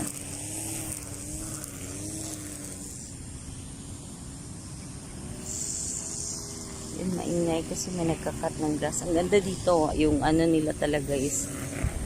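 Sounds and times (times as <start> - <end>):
grass cutter engine running: 0.0 - 12.0.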